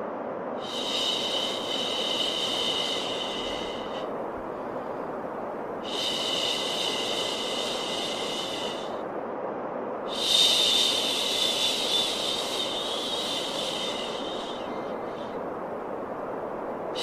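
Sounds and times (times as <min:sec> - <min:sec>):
steady white noise: 0:00.0 - 0:17.0.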